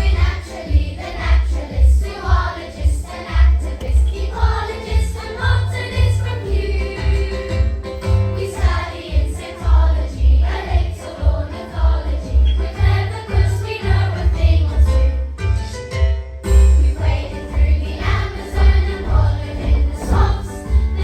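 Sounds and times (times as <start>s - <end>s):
backing music with bass beat: 0.0s - 15.1s, 16.5s - 21.0s
children's choir singing: 0.0s - 15.2s, 16.6s - 21.0s.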